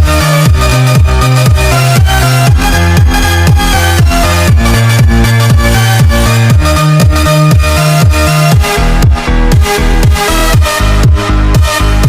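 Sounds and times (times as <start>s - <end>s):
deep kick drum: 0.0s - 12.0s
electronic dance music: 0.0s - 12.0s.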